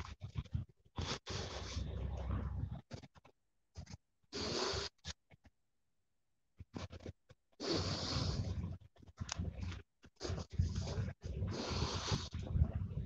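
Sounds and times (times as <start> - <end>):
rustling on phone microphone: 0.0 - 5.4, 6.6 - 13.0.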